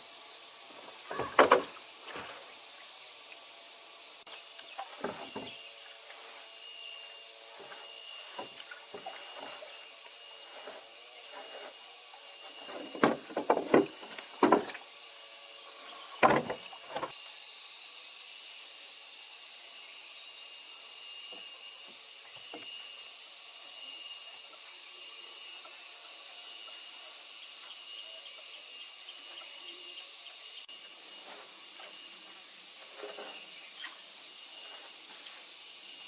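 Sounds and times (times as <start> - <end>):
high-pitched outdoor hiss: 0.0 - 36.0.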